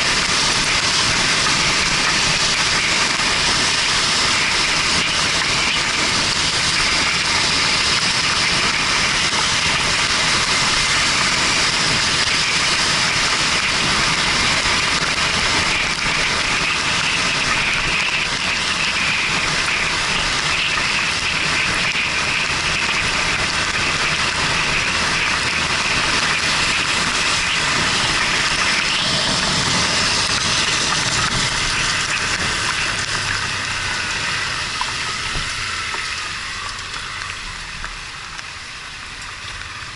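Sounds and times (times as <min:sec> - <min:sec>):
hiss of wind and wet tyres: 0:00.0 - 0:39.9
motorcycle engine running: 0:00.0 - 0:39.9.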